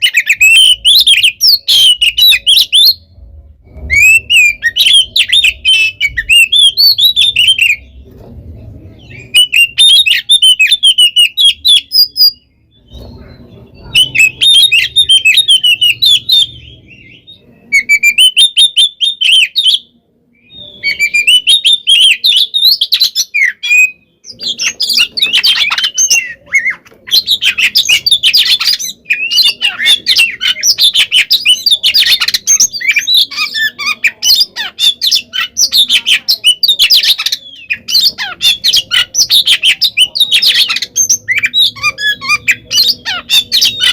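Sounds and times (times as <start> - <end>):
bird singing chattering song: 0.0 - 43.9.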